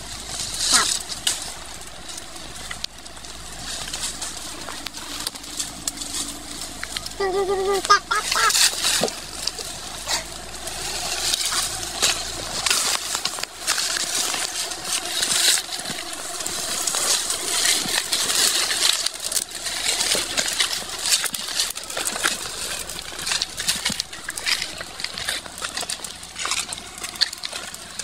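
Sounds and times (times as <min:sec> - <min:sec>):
leaves and twigs rustling: 0:00.0 - 0:28.0
twigs snapping: 0:00.0 - 0:28.0.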